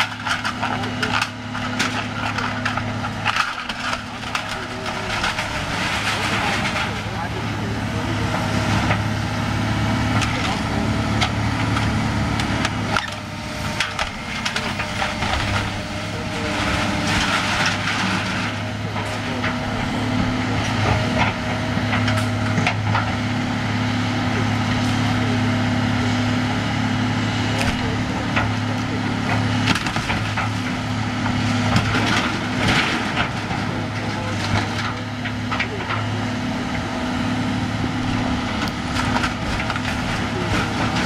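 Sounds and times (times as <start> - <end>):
wood splintering and debris crunching: 0.0 - 7.7, 9.9 - 41.0
diesel engine humming: 0.0 - 41.0.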